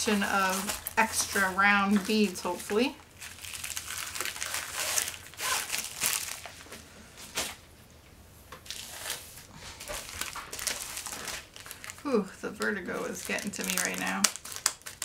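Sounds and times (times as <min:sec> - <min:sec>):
plastic packaging crinkling: 0:00.0 - 0:07.7, 0:08.6 - 0:15.0.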